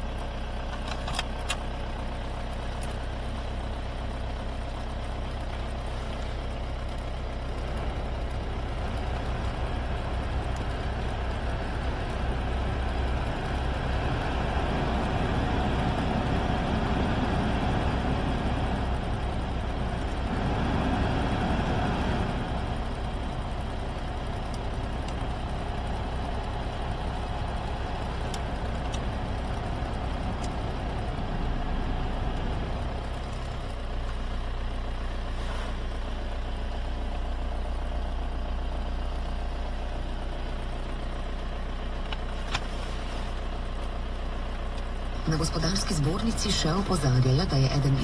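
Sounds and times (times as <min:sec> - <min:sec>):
turbodiesel engine running: 0:00.0 - 0:48.0.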